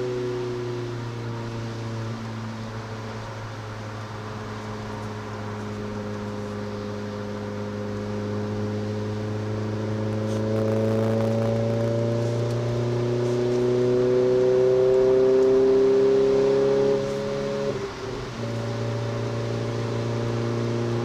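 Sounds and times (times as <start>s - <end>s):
car engine revving: 0.0s - 21.0s
road noise hiss: 0.0s - 21.0s.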